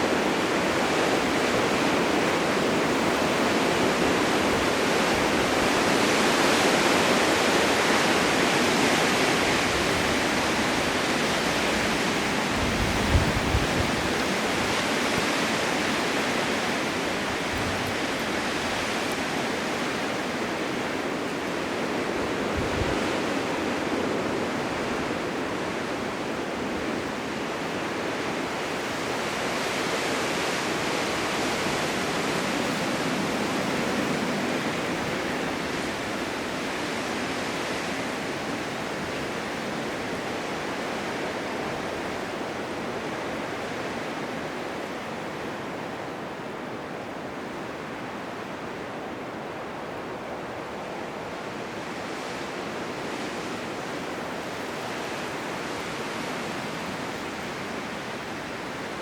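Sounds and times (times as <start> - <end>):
blizzard wind rushing: 0.0 - 59.0.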